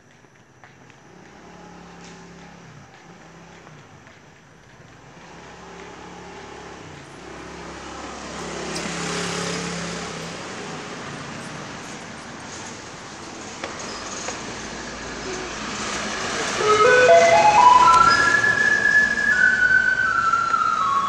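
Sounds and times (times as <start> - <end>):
road traffic: 0.0 - 21.0
vehicle passing by: 1.0 - 13.6, 14.2 - 21.0.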